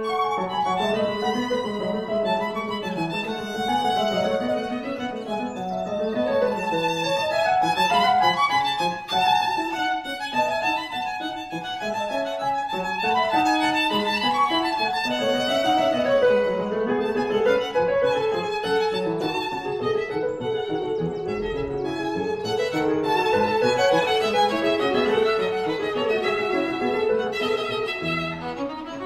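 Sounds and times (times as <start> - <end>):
violin melody: 0.0 - 29.0.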